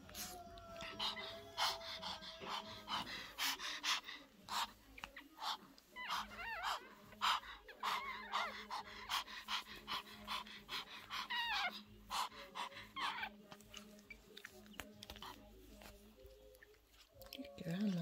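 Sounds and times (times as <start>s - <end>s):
dog panting: 0.0s - 17.1s.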